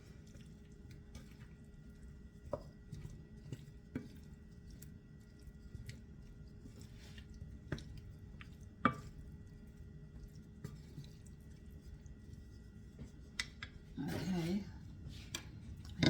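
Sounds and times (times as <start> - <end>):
low steady hum: 0.0 - 16.0
soft wet squishes: 0.0 - 16.0.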